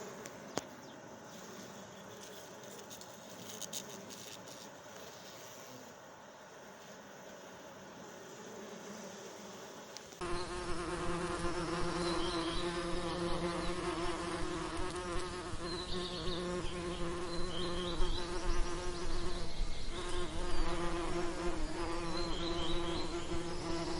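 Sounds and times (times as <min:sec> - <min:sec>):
bees buzzing: 0:00.0 - 0:19.4.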